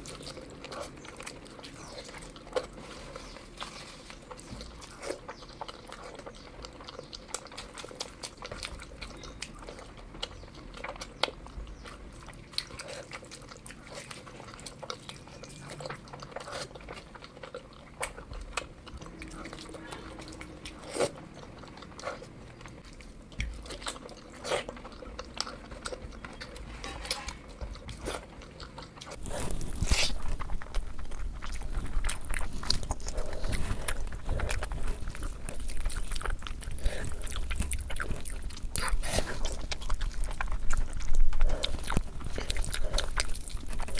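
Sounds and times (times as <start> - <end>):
person chewing and biting: 0.0 - 43.9.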